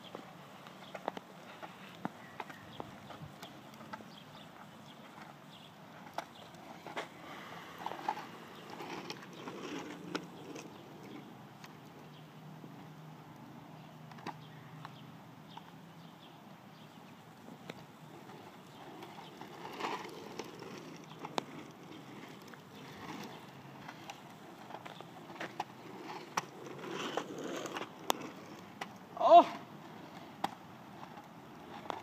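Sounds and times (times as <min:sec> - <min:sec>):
casterboard wheels clicking on asphalt: 0:00.0 - 0:32.0.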